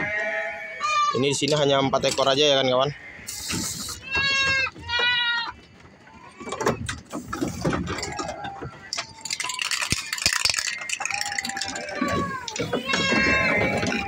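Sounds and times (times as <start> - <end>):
goats bleating: 0.0 - 6.8, 7.5 - 14.0.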